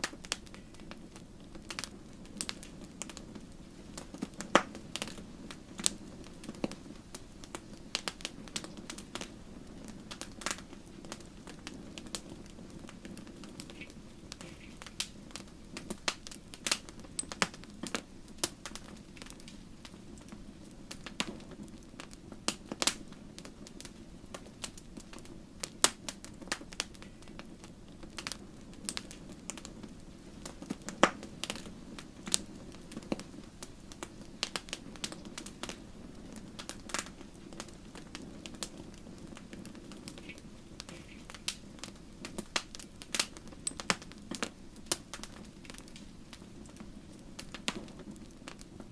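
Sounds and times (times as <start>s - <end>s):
fire rushing in fireplace: 0.0s - 48.9s
logs crackling and popping: 0.0s - 48.9s.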